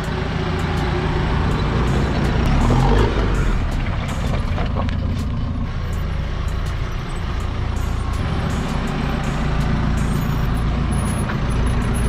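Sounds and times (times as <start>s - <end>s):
suv engines rumbling: 0.0s - 12.0s.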